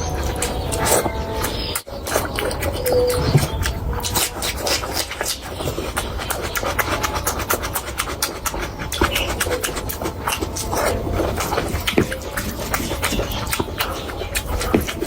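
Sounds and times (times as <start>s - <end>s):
chewing and lip-smacking: 0.0s - 15.0s.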